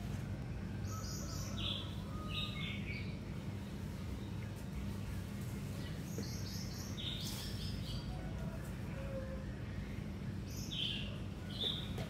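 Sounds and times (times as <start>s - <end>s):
small songbirds chirping: 0.4s - 8.1s, 9.6s - 12.0s.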